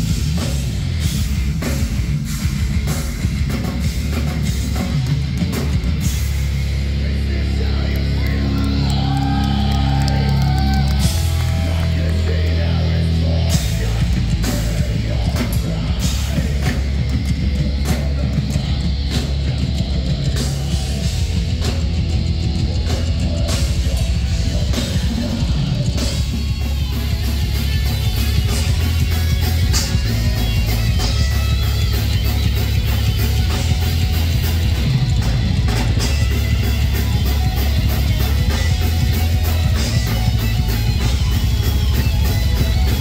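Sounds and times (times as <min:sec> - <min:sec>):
metal band playing: 0:00.0 - 0:43.0.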